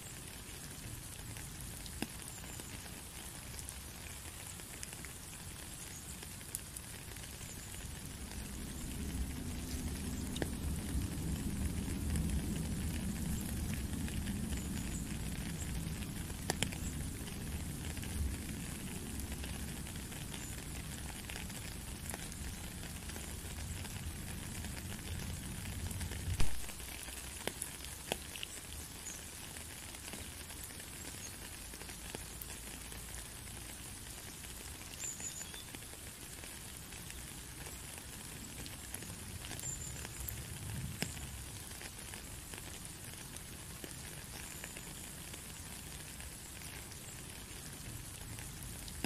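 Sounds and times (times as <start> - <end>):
rain pattering on puddle and stone: 0.0 - 49.0.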